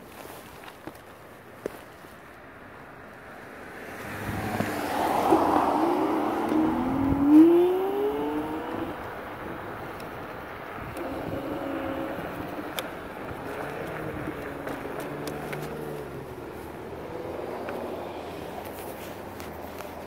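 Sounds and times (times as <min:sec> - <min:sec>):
vehicle accelerating: 0:03.3 - 0:20.0.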